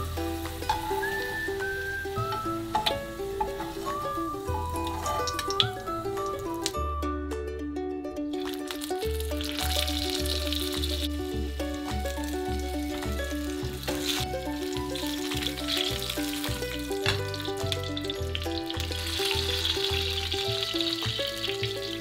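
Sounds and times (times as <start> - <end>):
potatoes sizzling in hot oil: 0.0 - 6.8, 8.4 - 22.0
background music with pulsing bass: 0.0 - 22.0.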